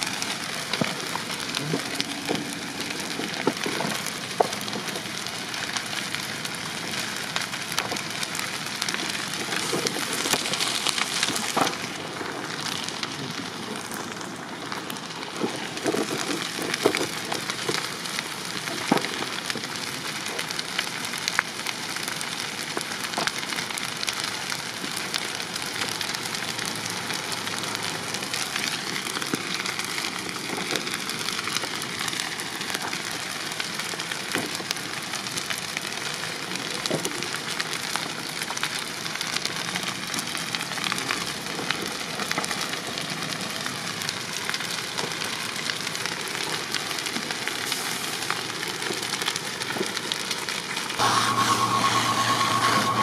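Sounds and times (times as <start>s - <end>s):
fire crackling and rushing: 0.0s - 53.0s
fire pops and snaps: 0.0s - 53.0s.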